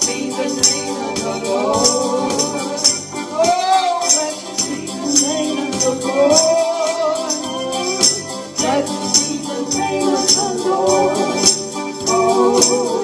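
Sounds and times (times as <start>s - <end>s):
electric keyboard accompaniment: 0.0s - 13.0s
man singing gospel song: 0.0s - 13.0s
tambourine jingling: 0.0s - 13.0s.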